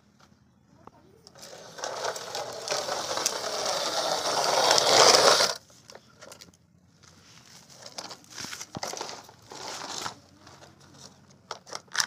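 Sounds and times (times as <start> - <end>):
toy wheels rattling over concrete: 1.2 - 6.6, 7.6 - 12.0.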